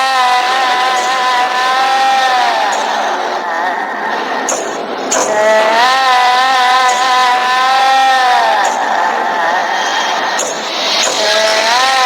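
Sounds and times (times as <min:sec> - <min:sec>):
high wailing cry: 0:00.0 - 0:12.0.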